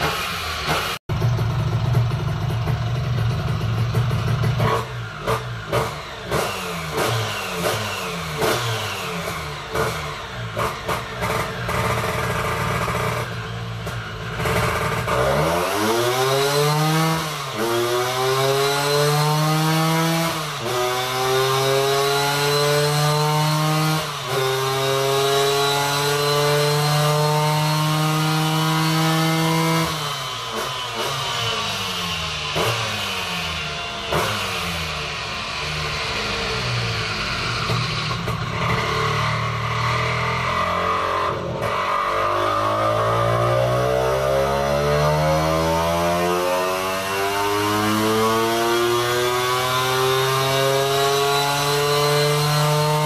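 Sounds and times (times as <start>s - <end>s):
scooter engine revving: 0.0s - 53.0s.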